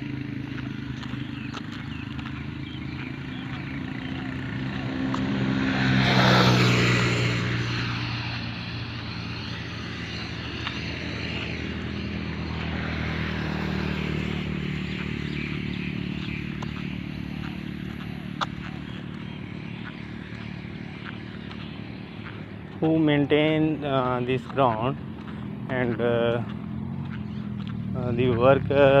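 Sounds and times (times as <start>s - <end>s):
steady engine hum: 0.0s - 29.0s
vehicle engine passing: 0.0s - 29.0s.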